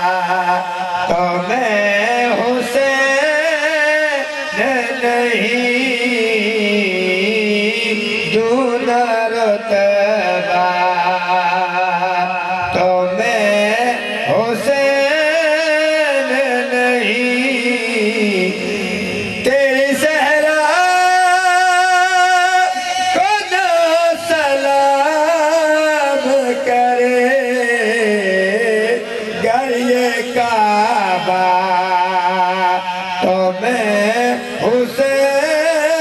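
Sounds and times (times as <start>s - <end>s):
man singing solo with vibrato: 0.0s - 36.0s.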